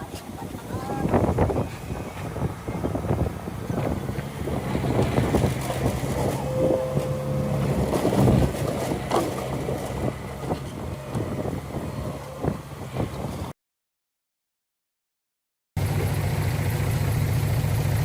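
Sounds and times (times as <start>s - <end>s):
heavy diesel machinery droning: 0.0s - 13.5s, 15.8s - 18.0s.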